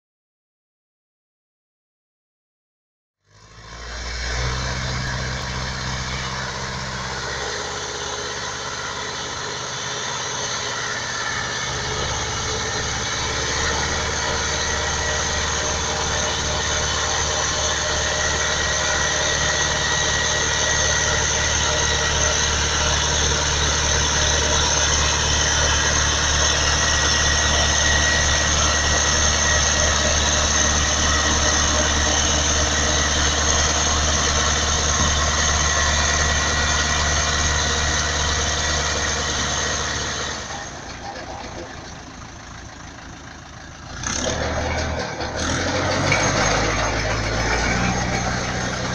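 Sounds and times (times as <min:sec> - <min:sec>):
tractor diesel engine running: 0:03.2 - 0:48.9.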